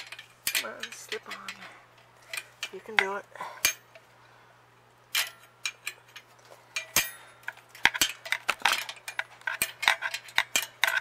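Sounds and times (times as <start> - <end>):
metal bracket clinking: 0.0 - 4.0, 5.1 - 11.0.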